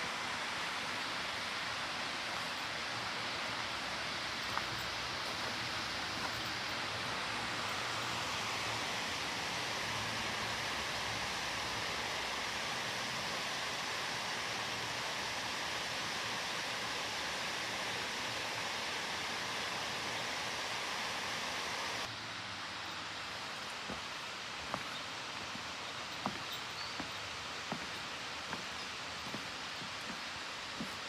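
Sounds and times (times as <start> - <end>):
outdoor ambience: 0.0 - 31.0
water flowing: 0.0 - 31.0.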